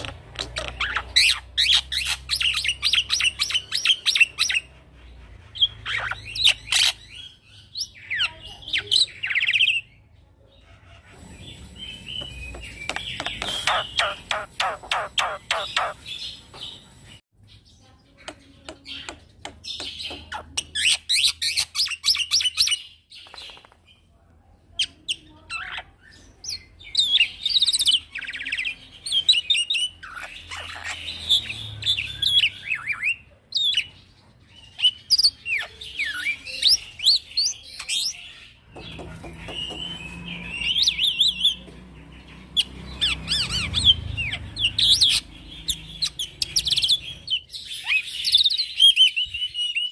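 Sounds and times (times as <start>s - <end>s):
starling singing: 0.0s - 17.2s, 17.8s - 23.8s, 24.7s - 49.9s.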